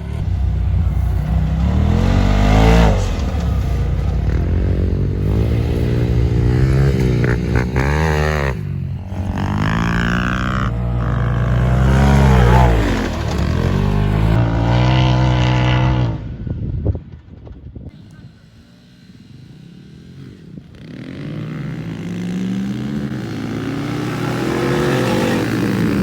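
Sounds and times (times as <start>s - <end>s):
off-road vehicle engine revving: 0.0s - 16.3s, 17.9s - 26.0s.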